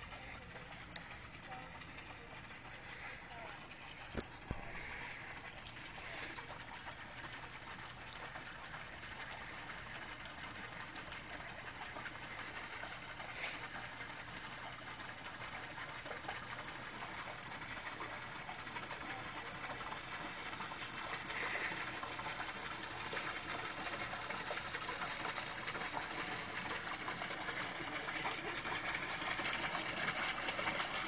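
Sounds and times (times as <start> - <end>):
small boat motor running: 0.0 - 31.0.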